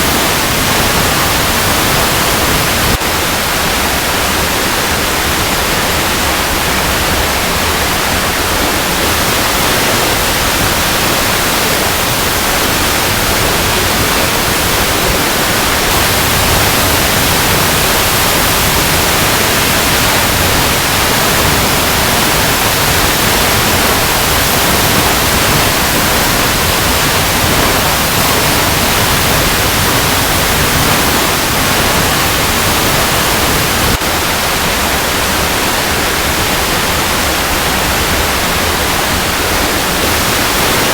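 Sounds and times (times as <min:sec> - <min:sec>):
waterfall over rocks: 0:00.0 - 0:40.9.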